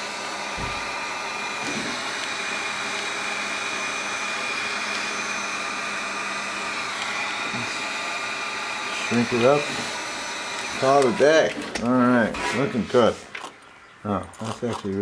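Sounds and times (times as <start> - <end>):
electric heat gun fan blowing: 0.0 - 13.5.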